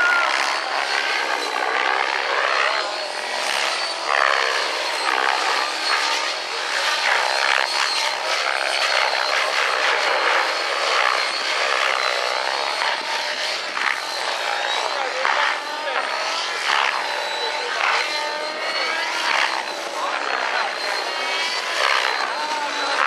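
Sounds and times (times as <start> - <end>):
model helicopter motor and rotor: 0.0 - 23.0.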